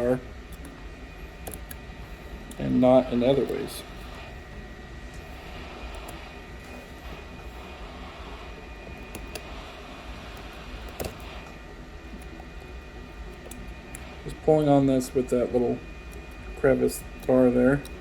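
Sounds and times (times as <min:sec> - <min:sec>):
fan drone: 0:00.0 - 0:18.0.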